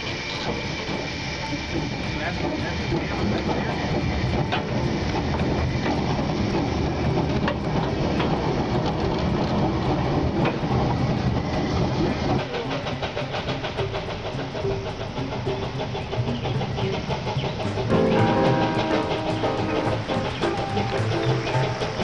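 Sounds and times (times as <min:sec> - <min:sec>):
steam locomotive running: 0:00.0 - 0:22.0
wheels clicking over rail joints: 0:00.0 - 0:22.0.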